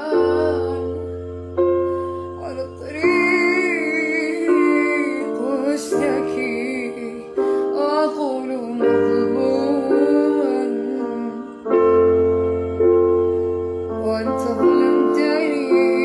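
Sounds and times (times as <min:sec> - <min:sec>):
woman singing: 0:00.0 - 0:01.4, 0:02.3 - 0:12.1, 0:13.9 - 0:16.0
keyboard chords: 0:00.0 - 0:16.0.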